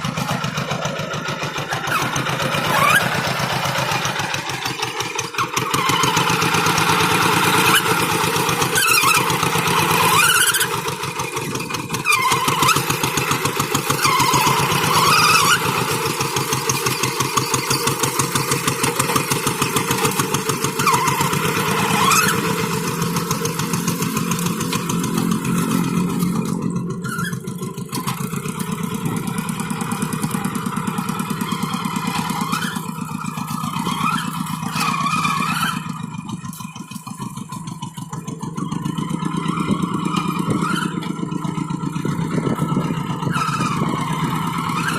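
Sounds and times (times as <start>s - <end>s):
tractor engine under load: 0.0s - 44.9s.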